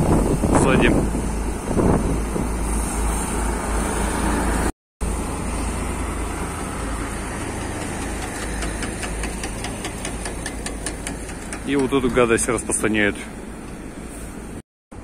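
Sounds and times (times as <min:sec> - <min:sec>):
diesel trucks driving past: 0:00.0 - 0:14.6.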